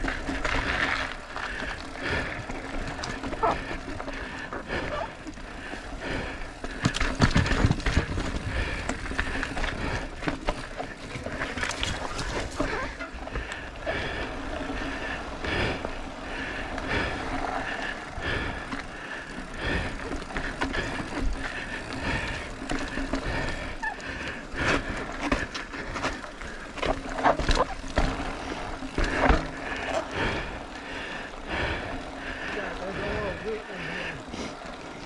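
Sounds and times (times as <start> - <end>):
bike knocking and rattling: 0.0 - 35.0
bike tyres crunching on rock: 0.0 - 35.0.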